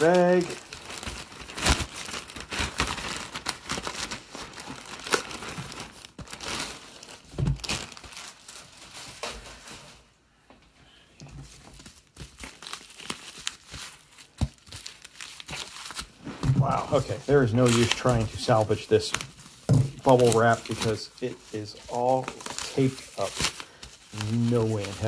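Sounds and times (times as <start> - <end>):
plastic bag and bubble wrap crinkling: 0.0 - 10.2, 11.2 - 25.0.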